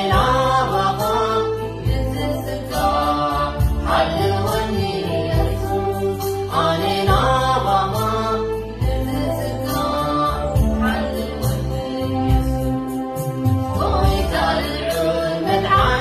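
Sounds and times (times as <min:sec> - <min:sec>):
electronic keyboard: 0:00.0 - 0:16.0
man and woman singing a hymn: 0:00.0 - 0:16.0
sustained bass notes: 0:00.0 - 0:16.0.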